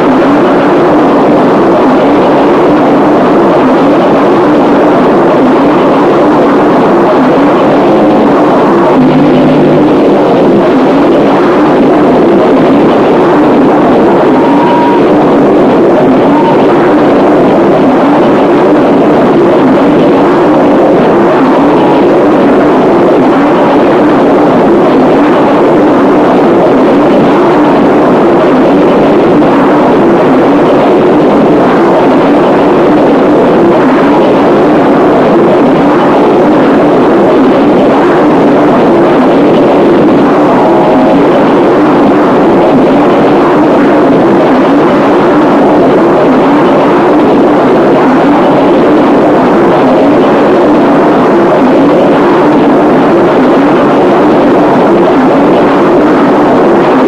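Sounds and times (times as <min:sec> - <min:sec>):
dense distorted noise music: 0:00.0 - 0:57.0.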